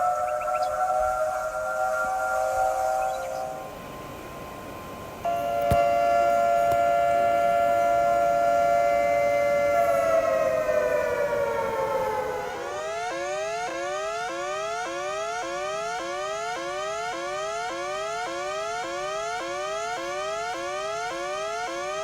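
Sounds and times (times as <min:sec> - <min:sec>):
emergency warning siren: 0:00.0 - 0:22.0.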